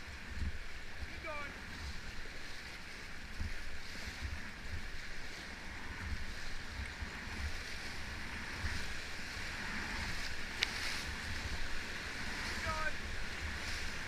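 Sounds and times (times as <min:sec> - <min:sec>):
rushing river water: 0:00.0 - 0:14.0
wind buffeting microphone: 0:00.0 - 0:14.0.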